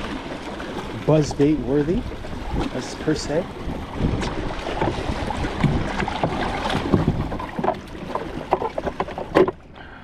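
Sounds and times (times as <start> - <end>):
water sloshing and splashing: 0.0 - 9.8.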